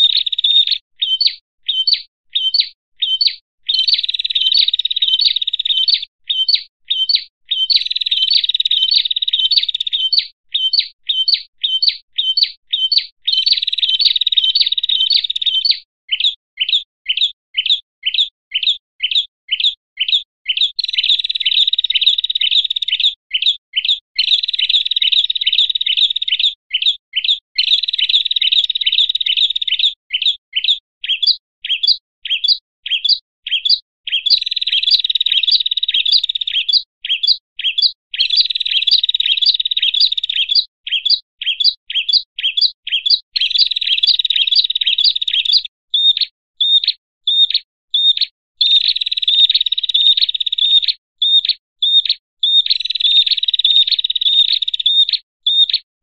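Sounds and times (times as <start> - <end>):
buzzy bird trills: 0.0 - 55.8
high sharp bird chirps: 0.0 - 55.9.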